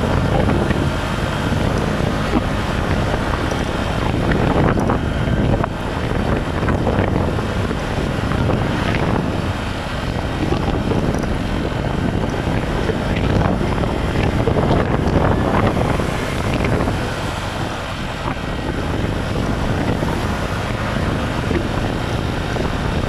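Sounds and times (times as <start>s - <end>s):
motorcycle engine: 0.0s - 23.0s
road noise: 0.0s - 23.0s
wind rush on microphone: 0.0s - 23.0s.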